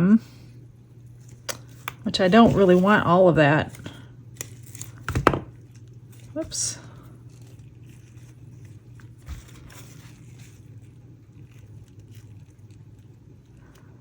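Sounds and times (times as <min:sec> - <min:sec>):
dried flowers rustling: 0:01.1 - 0:14.0.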